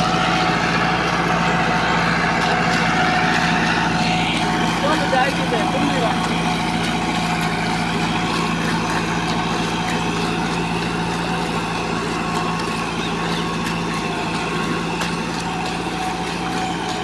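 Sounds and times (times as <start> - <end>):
combine harvester engine drone: 0.0 - 17.0
machinery whine: 0.0 - 17.0.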